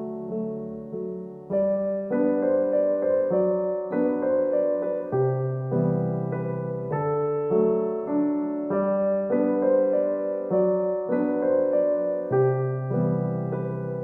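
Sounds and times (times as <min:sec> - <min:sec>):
gentle piano tune: 0:00.0 - 0:14.0.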